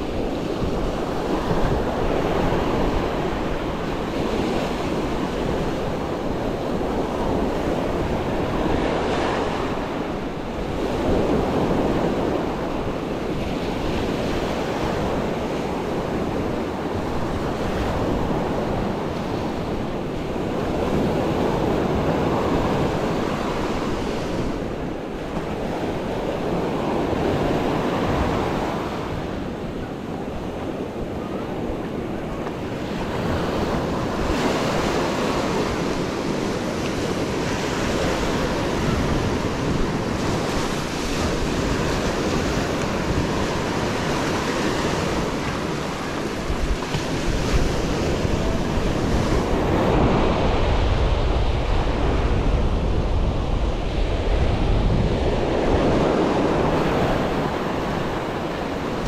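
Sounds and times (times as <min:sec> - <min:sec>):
surf breaking on beach: 0:00.0 - 0:59.0
wind rumbling on microphone: 0:00.0 - 0:59.0.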